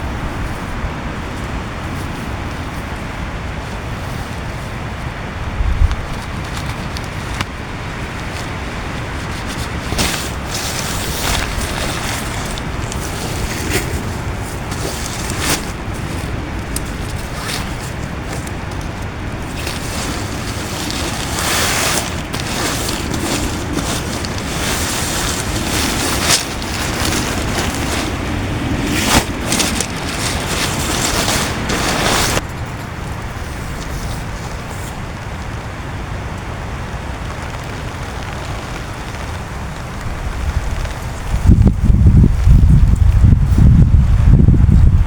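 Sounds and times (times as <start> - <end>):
gusting wind: 0.0 - 45.0
heavy rain on a tent: 0.0 - 45.0.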